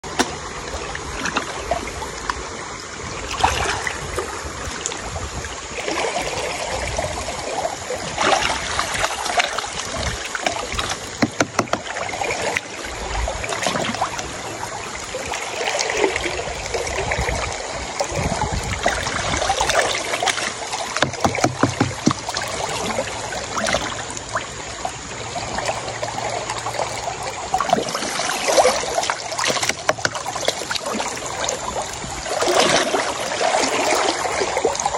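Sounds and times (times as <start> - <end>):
river water sloshing and splashing: 0.0 - 34.9.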